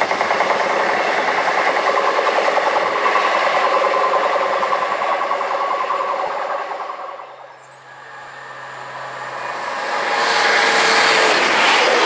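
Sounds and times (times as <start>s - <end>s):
high-speed train approaching: 0.0s - 12.0s.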